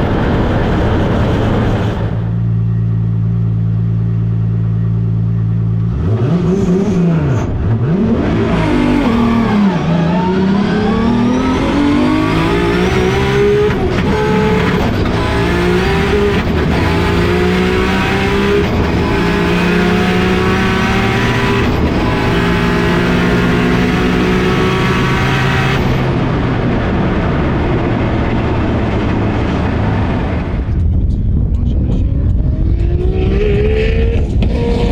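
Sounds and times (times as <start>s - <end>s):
turbocharged engine accelerating: 0.0s - 34.9s.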